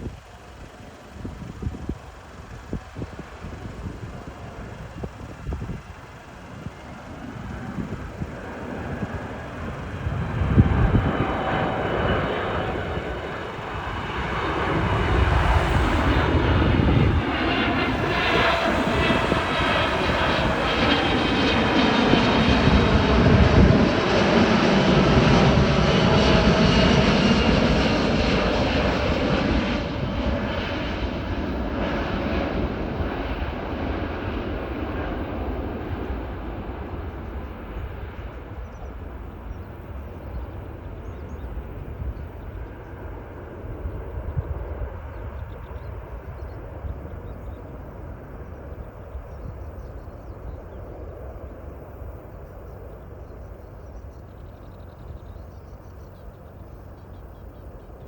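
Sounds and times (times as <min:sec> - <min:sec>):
airliner engine noise overhead: 0:00.0 - 0:58.0.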